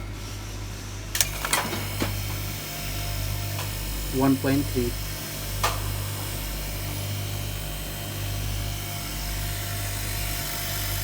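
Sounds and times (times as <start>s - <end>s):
compressor mains hum: 0.0s - 11.0s.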